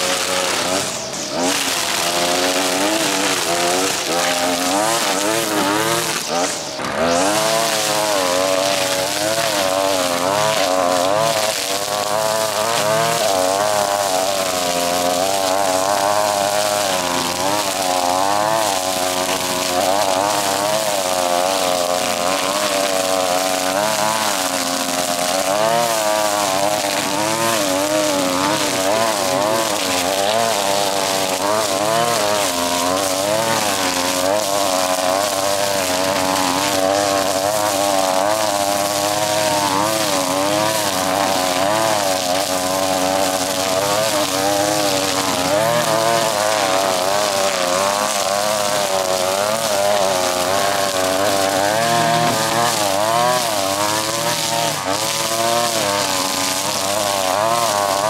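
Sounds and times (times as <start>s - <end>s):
string trimmer running and cutting: 0.0s - 58.0s.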